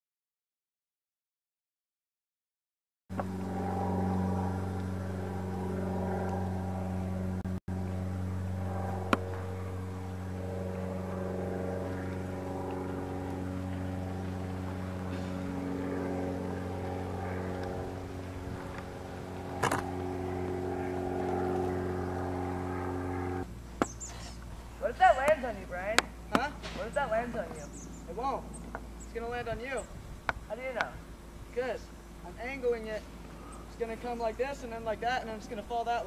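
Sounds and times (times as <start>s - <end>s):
engine running steadily: 3.1s - 36.0s.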